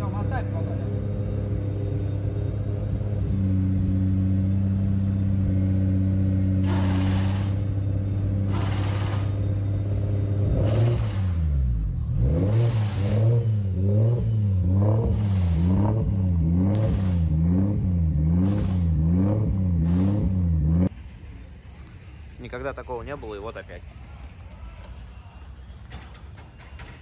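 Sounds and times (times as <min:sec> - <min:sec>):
car engine idling unevenly: 0:00.0 - 0:25.8.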